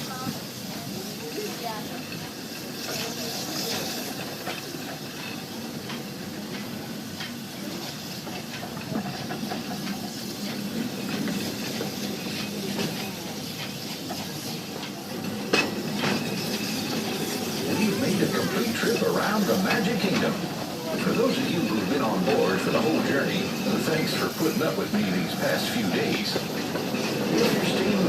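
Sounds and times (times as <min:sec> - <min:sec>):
train car hiss and rumble: 0:00.0 - 0:28.0.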